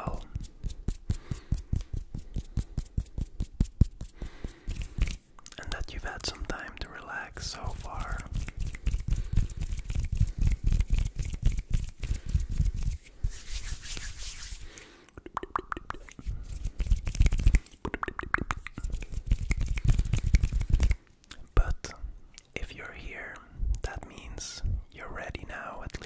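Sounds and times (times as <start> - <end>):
hands rubbing against microphone: 0.0 - 21.0.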